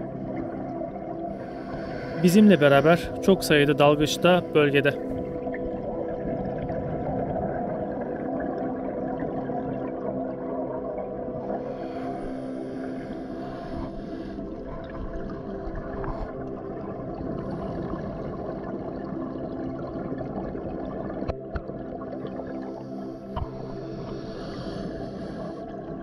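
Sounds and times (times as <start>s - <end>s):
boat motor drone underwater: 0.0s - 26.0s.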